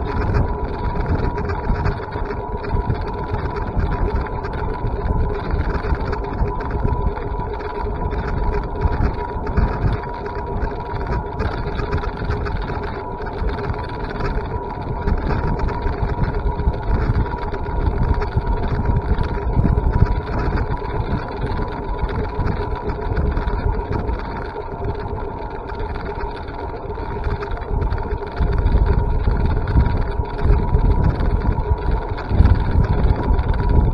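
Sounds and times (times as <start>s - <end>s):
wind and road rumble: 0.0s - 33.9s.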